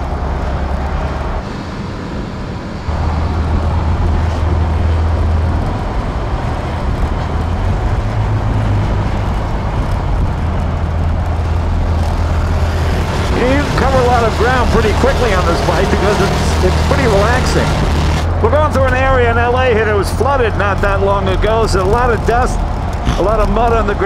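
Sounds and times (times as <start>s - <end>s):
motorcycle engine at road speed: 0.0s - 24.0s
wind and road noise: 0.0s - 24.0s.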